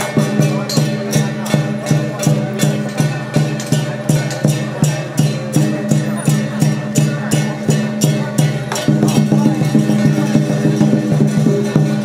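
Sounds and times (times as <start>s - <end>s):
drum and cymbals beat: 0.0s - 12.0s.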